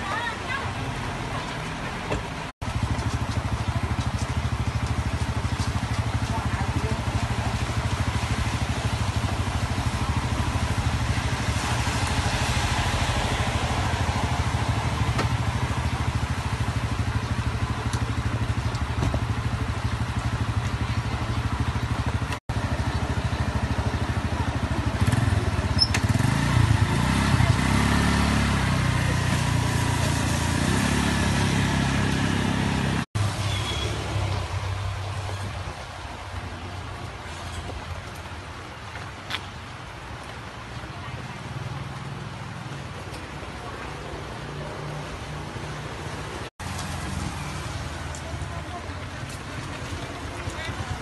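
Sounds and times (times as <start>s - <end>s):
cars and motorbikes idling: 0.0s - 51.0s.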